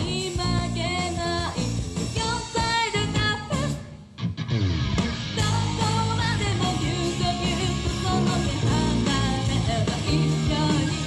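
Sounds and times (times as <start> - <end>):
woman singing: 0.0 - 4.0, 5.4 - 11.0
electric guitar: 0.0 - 11.0
rock band playing live: 0.0 - 11.0.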